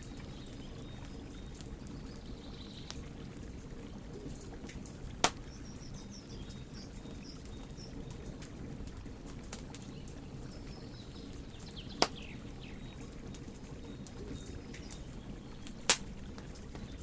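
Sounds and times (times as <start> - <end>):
fire crackling: 0.0 - 17.0
fire flames rumbling: 0.0 - 17.0.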